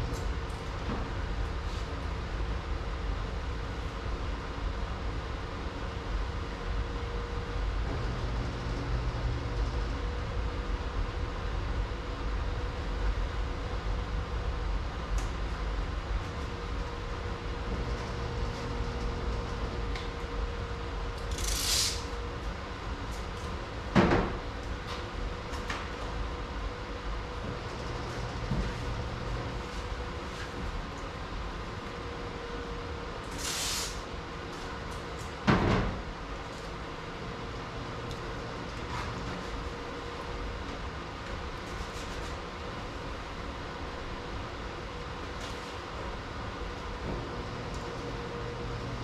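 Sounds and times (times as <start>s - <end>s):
machine humming and rumbling: 0.0s - 49.0s.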